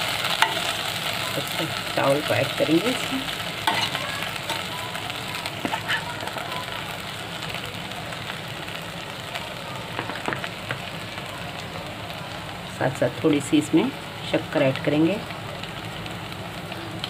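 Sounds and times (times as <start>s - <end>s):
ghee sizzling in a pot: 0.0s - 17.0s.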